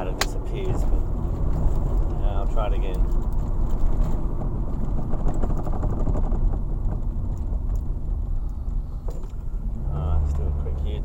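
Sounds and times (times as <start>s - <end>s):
rapid brake rattling: 0.0s - 9.6s
road rumble: 0.0s - 11.0s.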